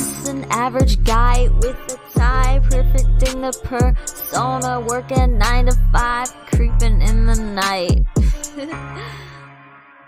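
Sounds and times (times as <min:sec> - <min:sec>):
hip hop beat: 0:00.0 - 0:09.0.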